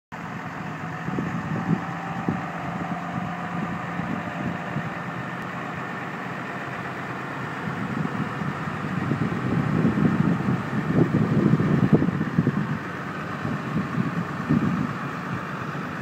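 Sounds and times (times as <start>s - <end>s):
diesel truck idling: 0.1s - 16.0s.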